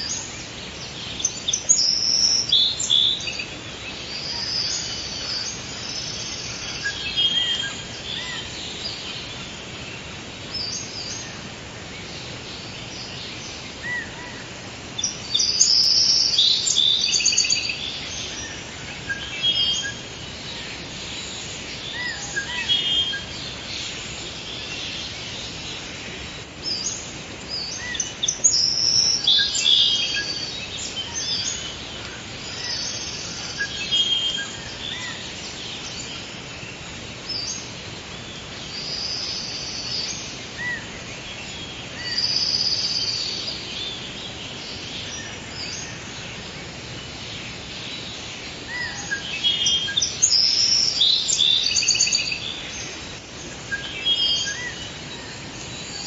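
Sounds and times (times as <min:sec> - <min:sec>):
birds chirping and trilling: 0:00.0 - 0:56.0
forest background hiss: 0:00.0 - 0:56.0.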